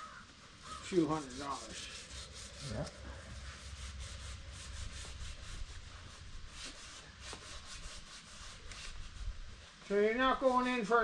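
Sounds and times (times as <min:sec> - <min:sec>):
sandpaper rubbing: 0:00.9 - 0:11.0.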